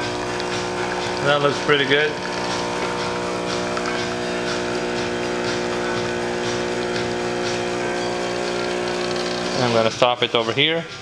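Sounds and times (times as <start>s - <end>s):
espresso machine pump humming: 0.0s - 10.1s.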